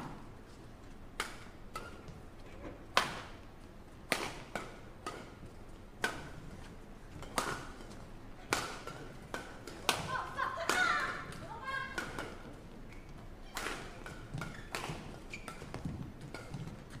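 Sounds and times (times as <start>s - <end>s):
rackets striking shuttlecock: 1.1s - 2.2s, 2.9s - 6.5s, 7.1s - 17.0s.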